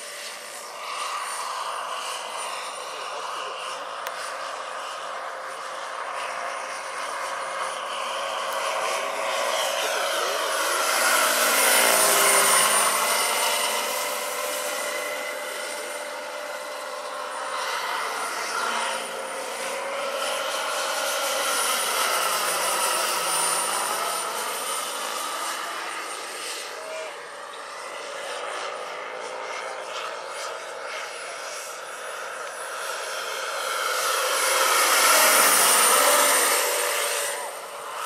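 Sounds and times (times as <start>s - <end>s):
helicopter rotors: 0.0s - 38.0s
high turbine whine: 0.0s - 38.0s.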